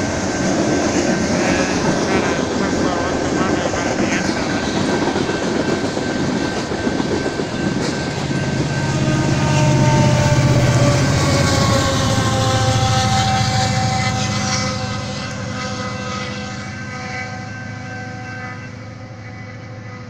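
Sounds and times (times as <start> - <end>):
train wheels running on rails: 0.0 - 20.0.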